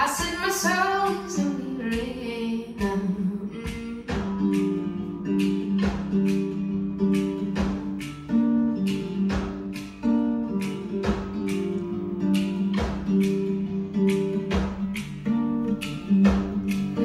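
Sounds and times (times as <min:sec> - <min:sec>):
song with strummed acoustic guitar: 0:00.0 - 0:17.0.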